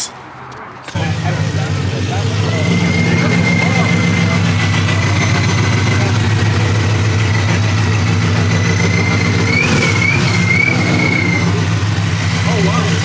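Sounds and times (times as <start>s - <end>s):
car engine idling: 0.8s - 13.0s.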